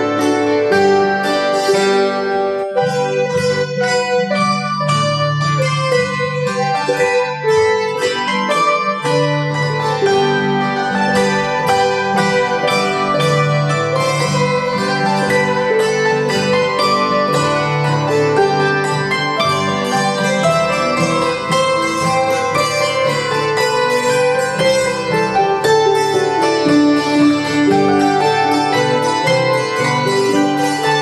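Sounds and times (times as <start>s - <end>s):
hammered dulcimer struck notes: 0.0s - 31.0s
lever harp plucked notes: 0.0s - 31.0s.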